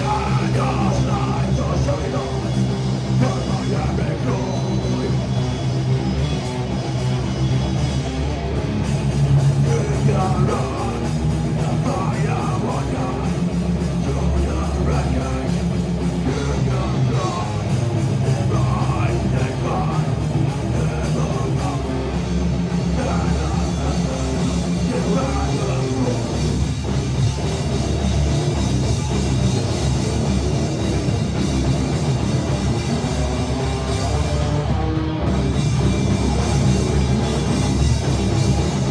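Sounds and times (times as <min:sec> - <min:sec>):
bass guitar: 0:00.0 - 0:38.9
distorted electric guitars: 0:00.0 - 0:38.9
drum kit: 0:00.0 - 0:38.9.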